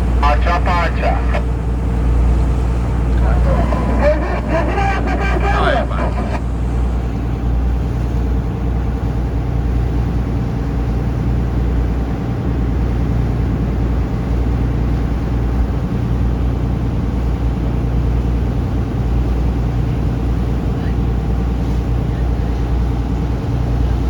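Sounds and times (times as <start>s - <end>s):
boat engine drone: 0.0s - 24.0s.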